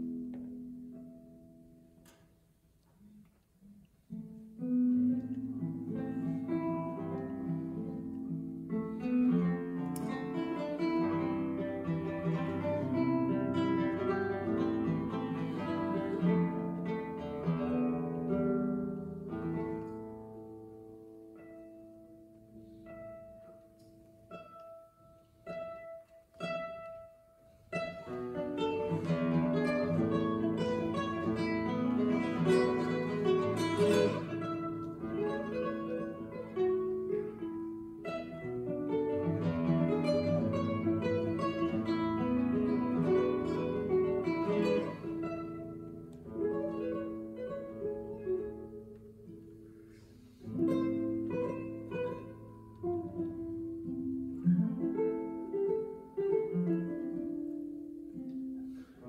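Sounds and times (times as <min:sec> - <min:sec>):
fingerstyle classical guitar: 0:00.0 - 0:59.0.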